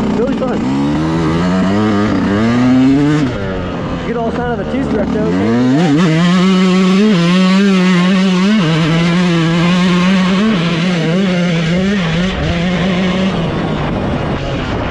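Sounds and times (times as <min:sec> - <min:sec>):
two-stroke dirt bike engine revving: 0:00.0 - 0:14.9.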